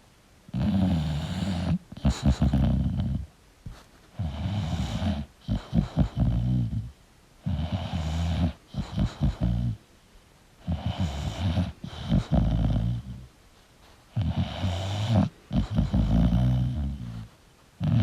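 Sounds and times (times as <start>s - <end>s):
dog snoring: 0.5s - 3.3s, 4.2s - 9.8s, 10.6s - 13.3s, 14.1s - 18.0s.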